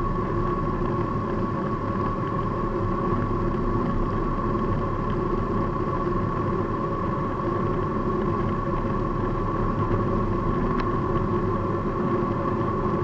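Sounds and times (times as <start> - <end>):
car engine drone: 0.0 - 13.0
road and wind noise: 0.0 - 13.0.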